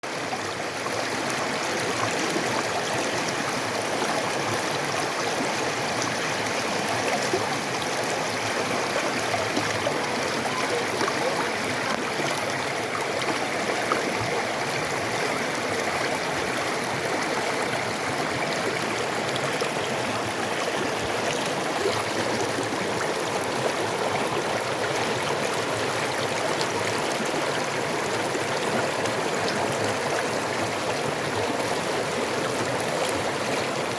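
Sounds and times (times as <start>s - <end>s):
creek running over rocks: 0.0s - 33.9s.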